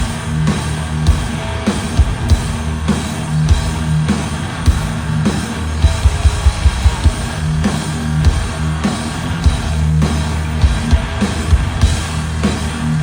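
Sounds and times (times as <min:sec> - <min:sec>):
distorted electric guitars: 0:00.0 - 0:13.0
hard-hit drums: 0:00.0 - 0:13.0.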